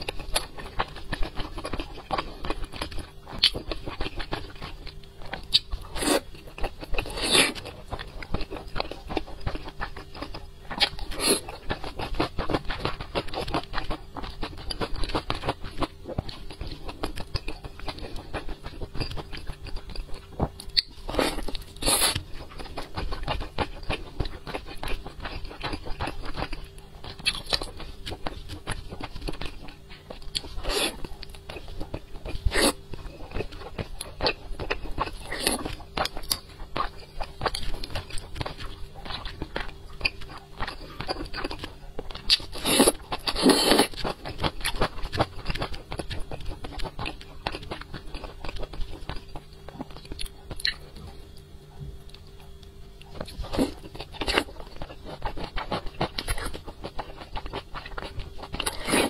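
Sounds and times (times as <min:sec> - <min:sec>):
wet chewing and biting: 0:00.0 - 0:59.0.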